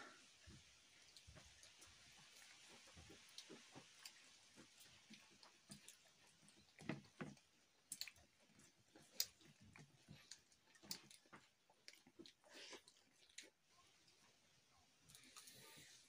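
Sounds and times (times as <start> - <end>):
chewing with wet smacks: 0.5 - 16.0.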